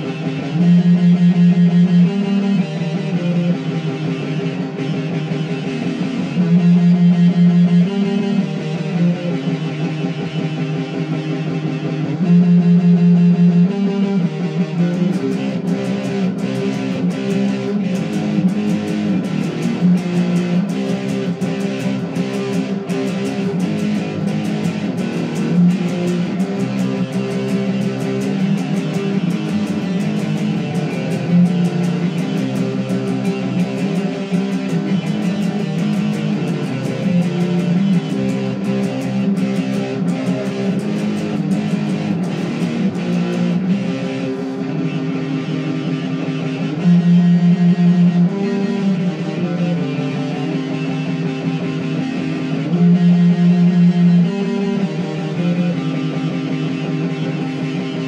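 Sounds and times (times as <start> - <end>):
guitar music: 0.0 - 58.0.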